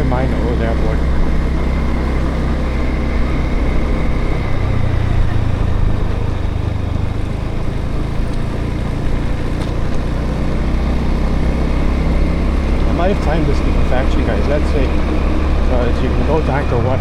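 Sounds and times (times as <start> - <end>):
motorbike engine running: 0.0 - 17.0
road and wind noise: 0.0 - 17.0.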